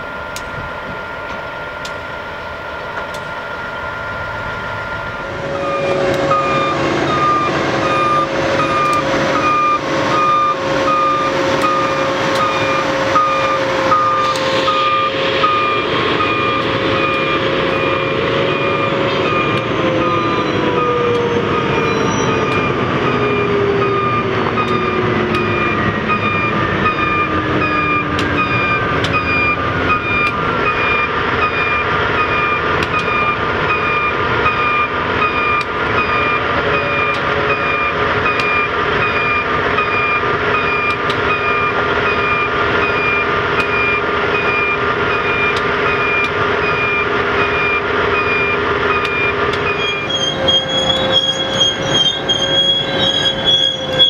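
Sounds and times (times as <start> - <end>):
low tone gliding down: 0.0 - 54.0
work train rumble: 0.0 - 54.0
backup alarm beeping: 3.0 - 54.0.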